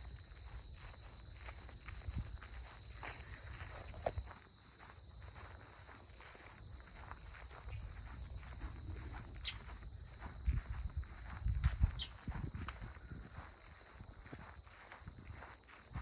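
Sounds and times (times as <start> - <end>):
crickets trilling: 0.0 - 16.0
footsteps crunching on trail: 0.0 - 16.0.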